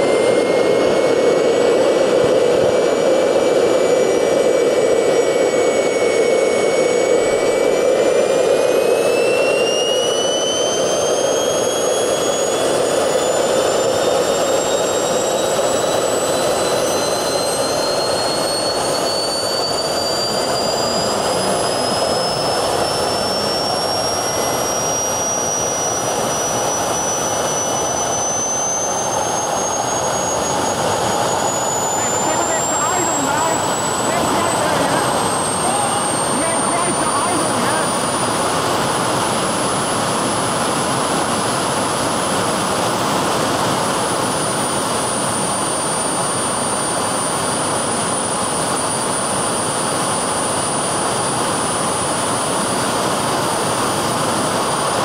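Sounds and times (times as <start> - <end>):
turbojet engine rushing and whining: 0.0 - 55.0.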